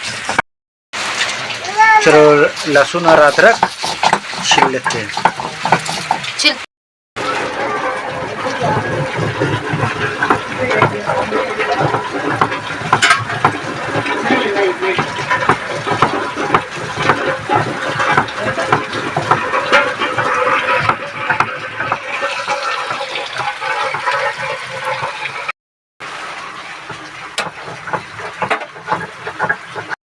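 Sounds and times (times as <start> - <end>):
water rushing and splashing: 1.0 - 30.0.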